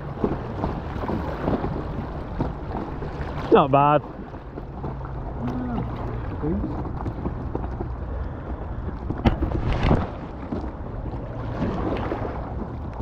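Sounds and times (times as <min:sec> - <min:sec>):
paddle splashes: 0:00.0 - 0:13.0
water noise: 0:00.0 - 0:13.0
wind rumbling on microphone: 0:00.0 - 0:13.0.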